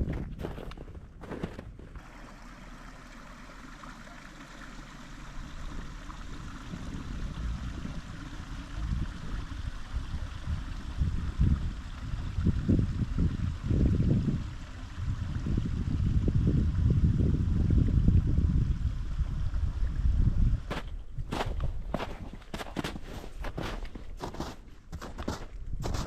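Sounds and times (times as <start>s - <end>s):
running water: 1.8s - 26.0s
low rumbles: 3.0s - 26.0s.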